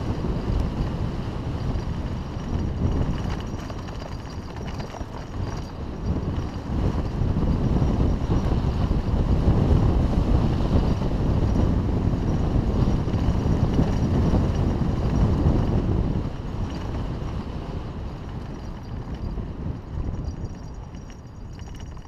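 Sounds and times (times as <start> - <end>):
bike tyres rumbling over dirt: 0.0 - 22.0
wind rushing over microphone: 0.0 - 22.0.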